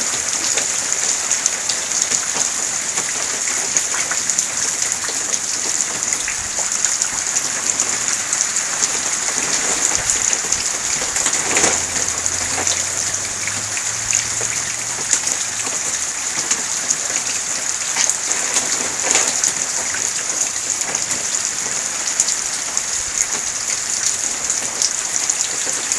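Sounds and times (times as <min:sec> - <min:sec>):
steady rain on hard surfaces: 0:00.0 - 0:25.9.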